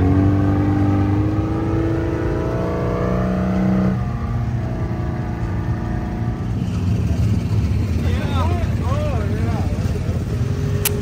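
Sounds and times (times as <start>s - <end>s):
engine running and revving: 0.0s - 11.0s.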